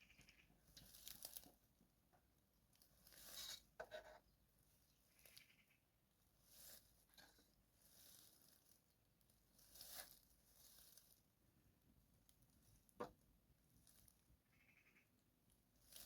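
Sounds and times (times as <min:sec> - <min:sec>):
faint rustling handling noise: 0:00.6 - 0:14.4, 0:15.6 - 0:16.0.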